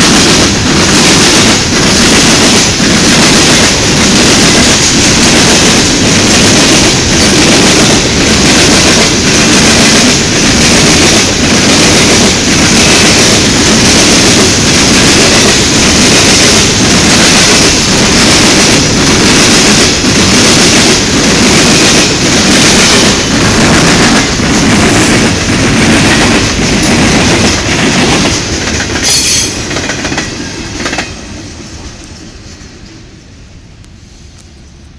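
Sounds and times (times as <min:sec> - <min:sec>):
train wheels clacking on rails: 0:00.0 - 0:33.0.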